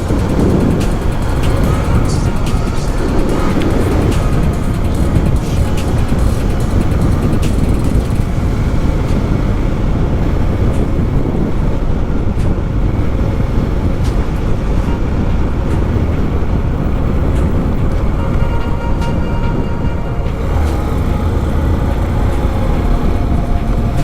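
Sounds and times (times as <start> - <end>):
motorcycle engine running: 0.0 - 19.2, 20.4 - 24.0
wind and road noise: 0.0 - 24.0.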